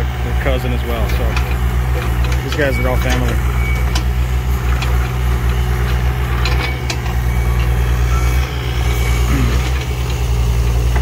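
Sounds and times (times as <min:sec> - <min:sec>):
diesel engine running: 0:00.0 - 0:11.0
sharp knocks and clanks: 0:00.9 - 0:11.0.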